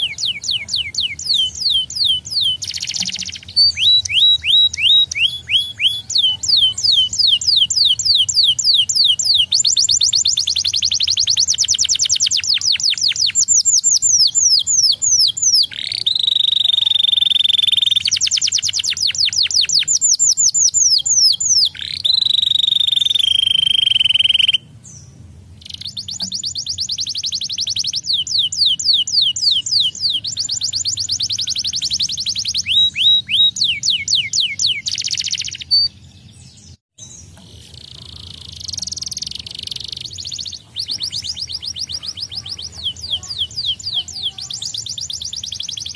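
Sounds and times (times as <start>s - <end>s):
canary singing: 0.0s - 45.9s.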